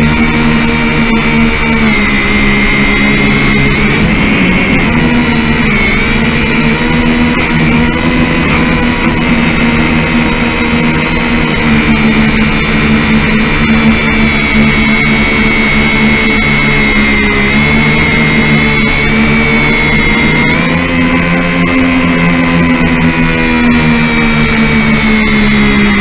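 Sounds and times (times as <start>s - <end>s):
quadcopter propellers whining: 0.0s - 26.0s.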